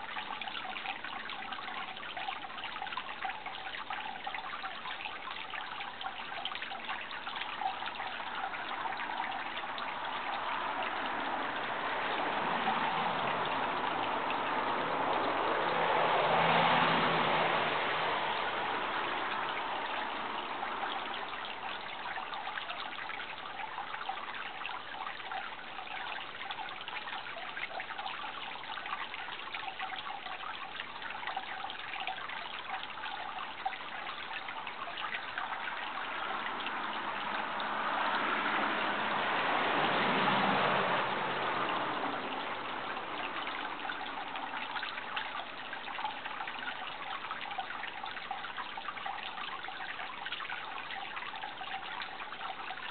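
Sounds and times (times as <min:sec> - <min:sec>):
running water rushing: 0:00.0 - 0:52.9.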